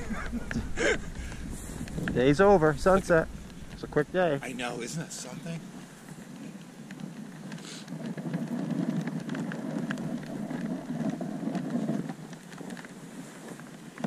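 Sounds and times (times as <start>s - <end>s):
sled runners scraping over snow: 0.0s - 14.0s.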